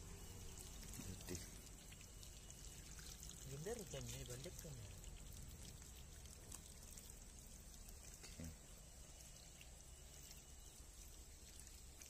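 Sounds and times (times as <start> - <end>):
water trickling from pipe: 0.0 - 12.0.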